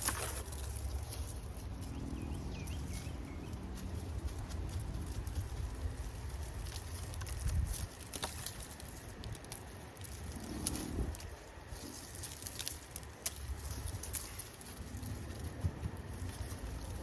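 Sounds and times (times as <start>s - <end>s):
plants pulled from soil: 0.0s - 17.0s.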